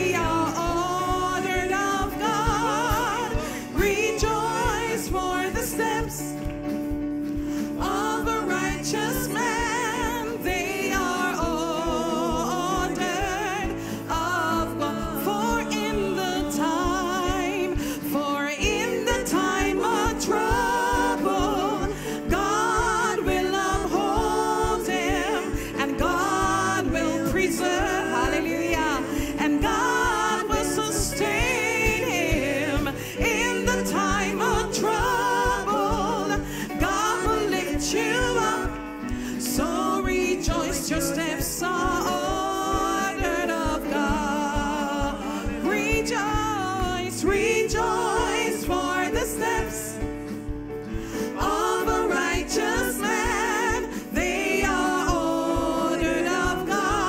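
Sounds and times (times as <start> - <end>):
band playing gospel music: 0.0 - 57.0
singers with vibrato: 0.0 - 57.0.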